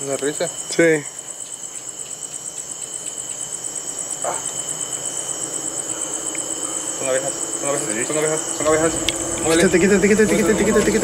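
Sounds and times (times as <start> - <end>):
insects trilling: 0.0 - 11.0
thin steady whine: 0.0 - 11.0.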